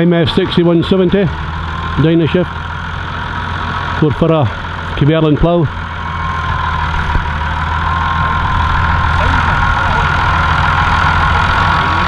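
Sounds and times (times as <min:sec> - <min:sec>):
tractor engine running: 0:00.0 - 0:12.0
steady whine: 0:00.4 - 0:12.0.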